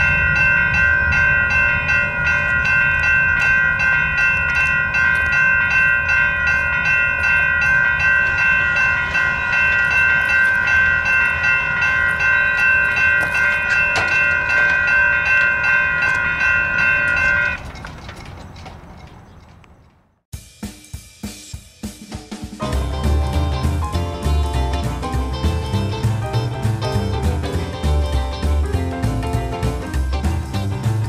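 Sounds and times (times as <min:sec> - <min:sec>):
railroad crossing bells ringing: 0:00.0 - 0:20.2, 0:22.6 - 0:31.0.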